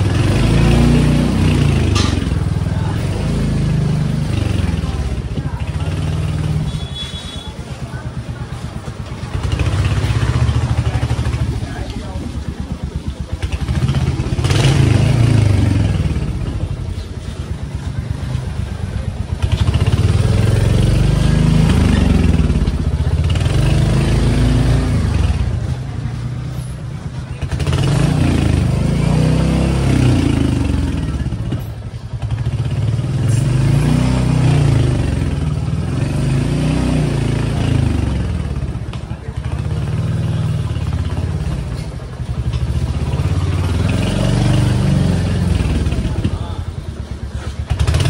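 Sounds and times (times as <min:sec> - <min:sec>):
small motorcycle engine revving: 0:00.0 - 0:07.5, 0:13.3 - 0:16.7, 0:19.1 - 0:25.8, 0:27.1 - 0:48.0.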